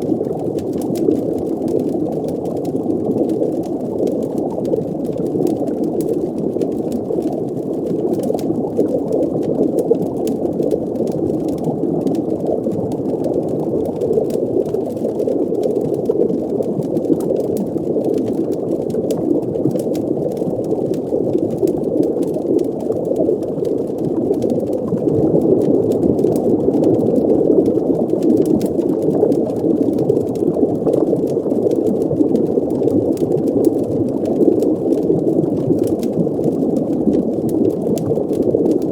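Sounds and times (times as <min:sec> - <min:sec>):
faint crackling clicks: 0:00.0 - 0:38.9
muffled bubbling water rush: 0:00.0 - 0:38.9.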